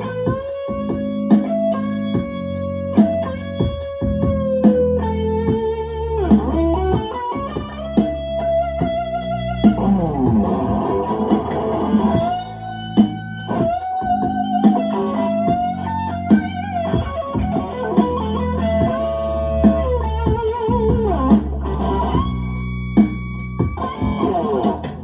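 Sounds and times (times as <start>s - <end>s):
bass: 0.0s - 25.0s
blues electric guitar lead: 0.0s - 25.0s
steady drum beat: 0.0s - 25.0s.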